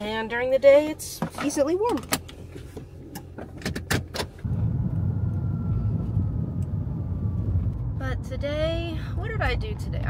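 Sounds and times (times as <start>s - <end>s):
car cabin rumble with road noise: 0.0s - 10.0s.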